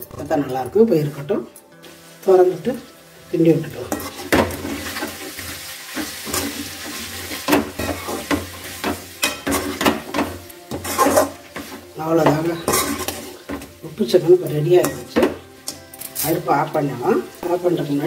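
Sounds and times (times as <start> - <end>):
pan sizzling: 0.0 - 18.0
metal spatula scraping pan: 1.8 - 17.4.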